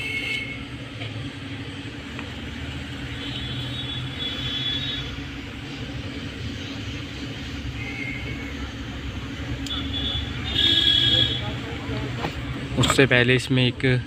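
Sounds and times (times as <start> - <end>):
vehicle rumble and hum: 0.0 - 14.0.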